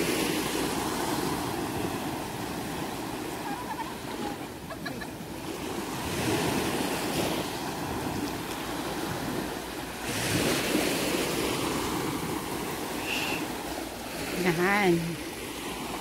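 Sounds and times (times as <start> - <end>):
waves washing onto pebble shore: 0.0 - 16.0.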